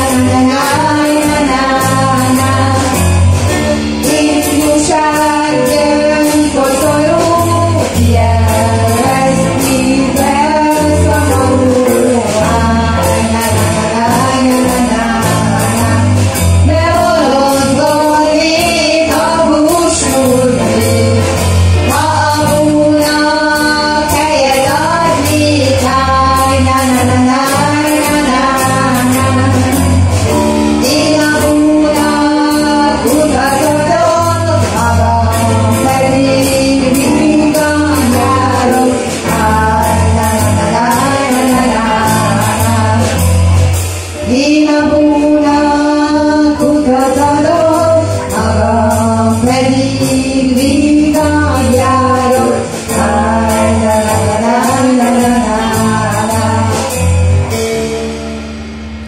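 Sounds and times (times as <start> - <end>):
person singing: 0.0 - 57.6
live band playing: 0.0 - 59.0.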